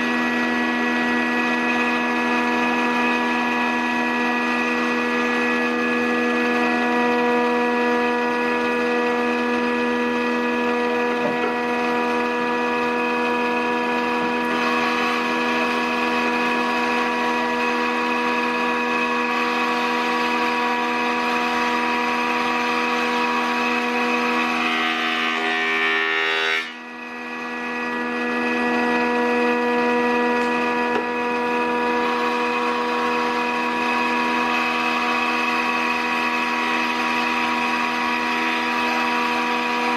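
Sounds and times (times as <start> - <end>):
planer whining: 0.0 - 39.9.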